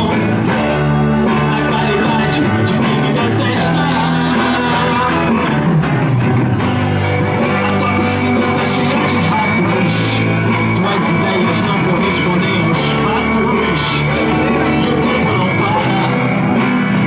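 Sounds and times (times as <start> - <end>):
drum kit: 0.0 - 17.0
electric guitars: 0.0 - 17.0
held low bass notes: 0.0 - 17.0.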